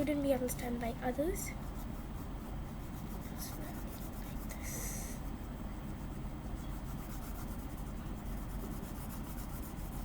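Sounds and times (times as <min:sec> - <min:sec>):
pencil scratching on paper: 0:01.5 - 0:10.0.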